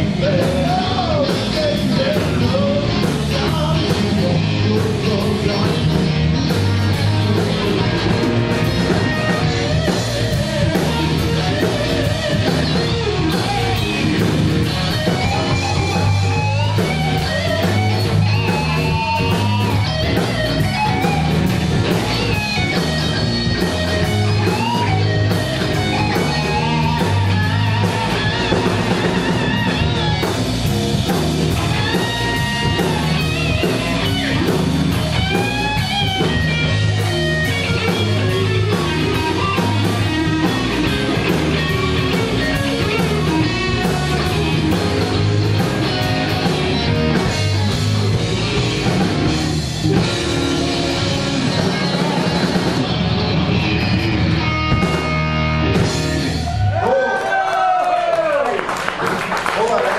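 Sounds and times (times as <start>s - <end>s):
lead guitar bending notes: 0.0s - 56.8s
blues band playing: 0.0s - 59.9s.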